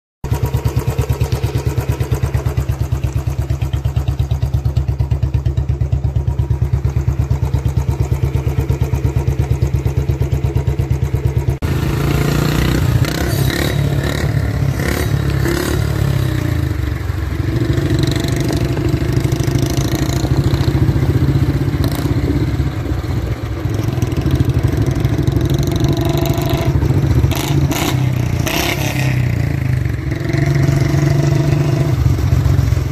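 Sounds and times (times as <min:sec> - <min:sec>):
motorcycle engine idling: 0:00.2 - 0:31.2, 0:32.0 - 0:32.9
motorcycle engine revving: 0:00.2 - 0:32.9.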